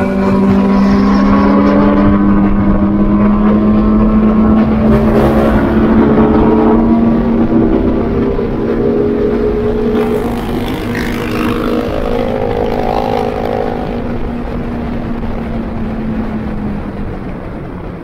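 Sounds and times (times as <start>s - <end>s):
car engine accelerating: 0.0s - 17.1s.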